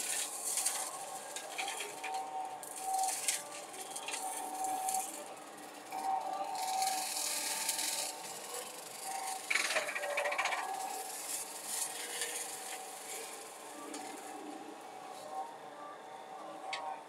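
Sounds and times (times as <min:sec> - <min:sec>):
brush mower hissing: 0:00.0 - 0:15.4.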